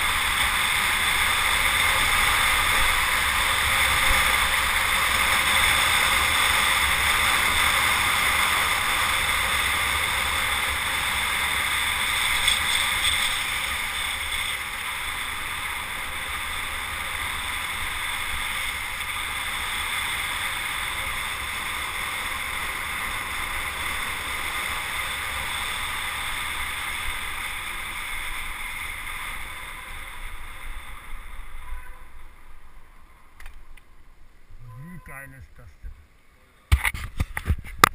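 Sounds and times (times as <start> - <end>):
bicycle tyres on asphalt: 0.0 - 34.7, 36.1 - 37.9.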